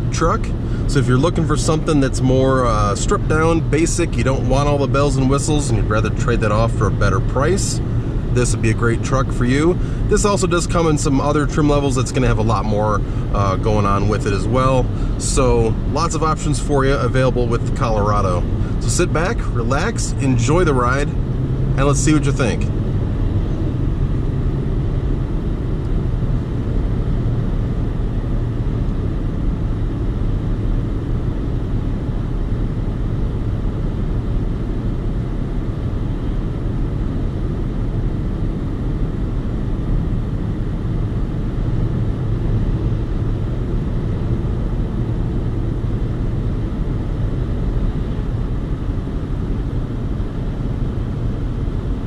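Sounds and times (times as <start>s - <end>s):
low engine hum: 0.0s - 52.0s.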